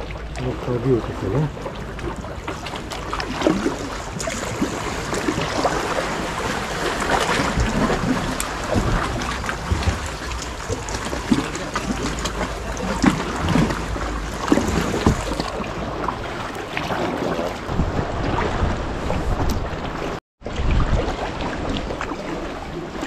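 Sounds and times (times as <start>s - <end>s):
paddle water splashing: 0.0s - 23.0s
water lapping at hull: 0.0s - 23.0s
wind rumble on microphone: 0.0s - 23.0s.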